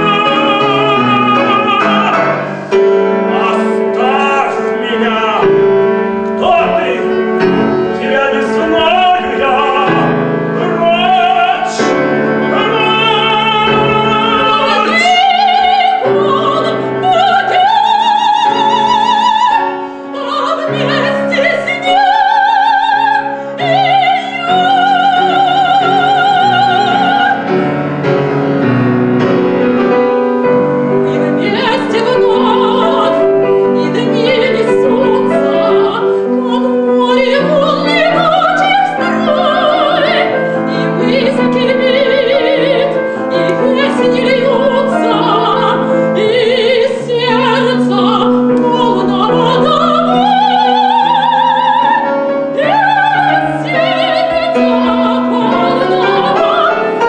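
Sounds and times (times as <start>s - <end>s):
operatic singing with vibrato: 0.0s - 57.0s
piano: 0.0s - 57.0s.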